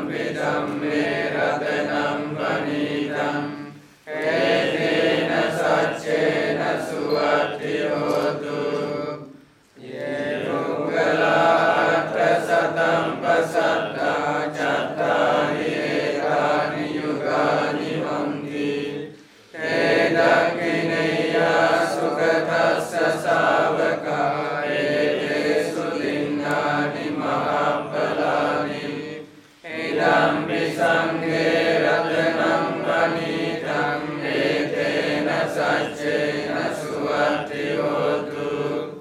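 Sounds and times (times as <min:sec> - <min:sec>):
group chanting in unison: 0:00.0 - 0:39.0.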